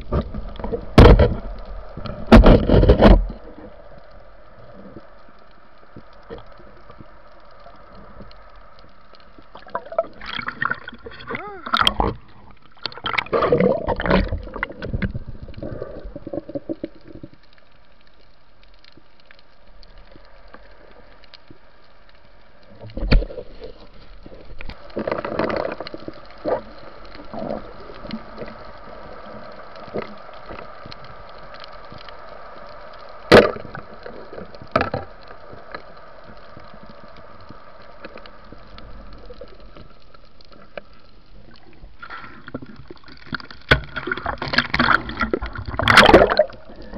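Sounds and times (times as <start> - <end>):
muffled underwater hiss: 0.0 - 46.9
water splashing and sloshing: 0.0 - 46.9.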